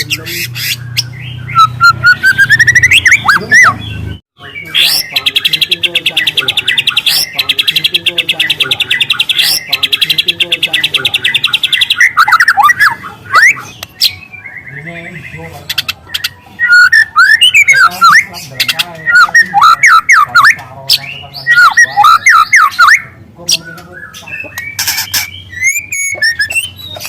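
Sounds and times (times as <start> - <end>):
bird singing trills and whistles: 0.0 - 27.0.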